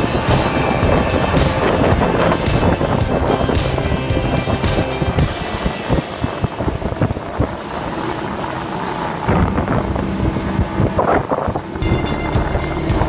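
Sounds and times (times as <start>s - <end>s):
speedboat engine: 0.0s - 13.0s
wind buffeting microphone: 0.0s - 13.0s.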